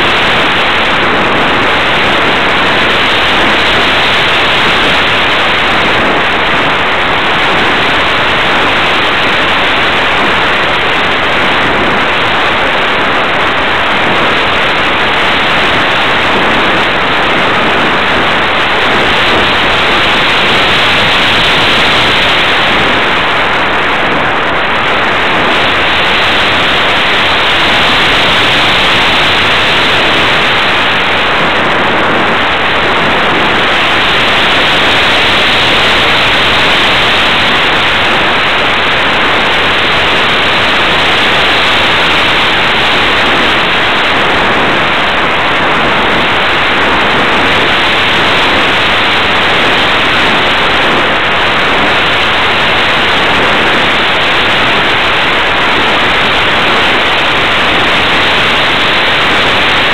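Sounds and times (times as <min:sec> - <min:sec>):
airflow rushing over microphone: 0:00.0 - 0:59.9.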